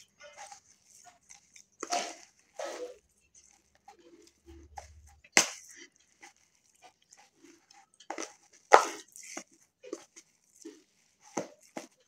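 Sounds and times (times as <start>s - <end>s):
spoon stirring thick mixture: 0.0s - 12.0s.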